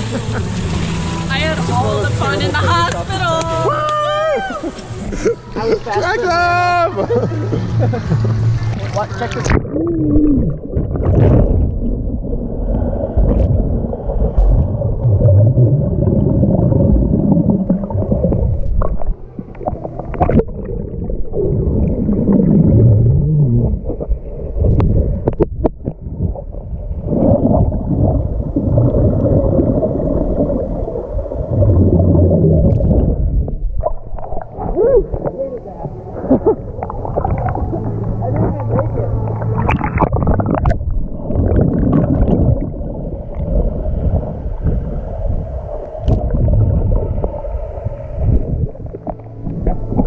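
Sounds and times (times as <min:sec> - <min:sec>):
underwater churning rumble: 0:00.0 - 0:03.7, 0:04.8 - 0:50.0
gurgling bubbles: 0:07.0 - 0:50.0.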